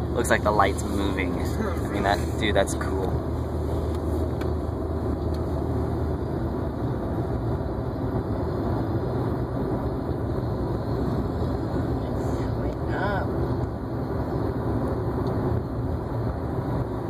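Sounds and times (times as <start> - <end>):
car engine hum: 0.0 - 17.0
tyre road noise: 0.0 - 17.0.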